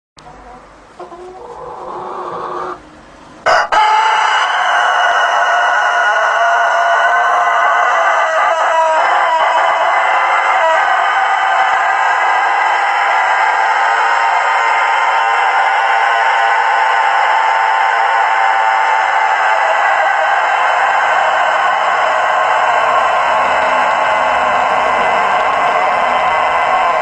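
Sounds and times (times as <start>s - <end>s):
rooster crowing: 3.4s - 27.0s.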